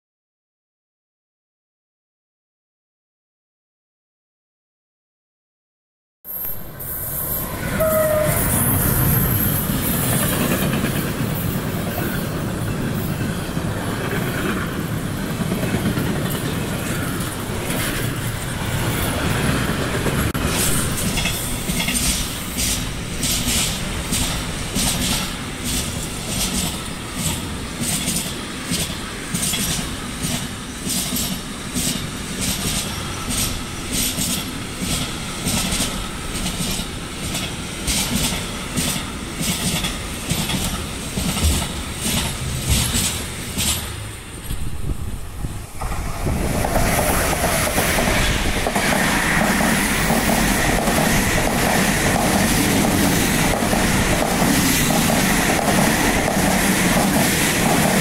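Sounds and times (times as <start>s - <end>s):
freight train passing: 6.3s - 58.0s.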